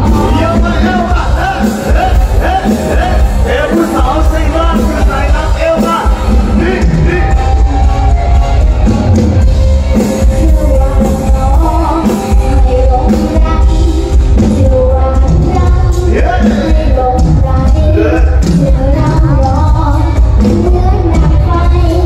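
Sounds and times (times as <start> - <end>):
person singing into microphone: 0.0 - 8.0, 9.9 - 22.0
band with heavy bass beat: 0.0 - 22.0.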